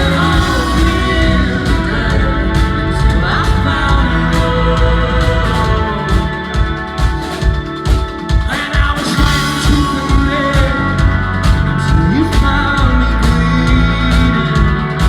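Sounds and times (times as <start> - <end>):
drum kit beat: 0.0 - 15.0
rock band playing live: 0.0 - 15.0.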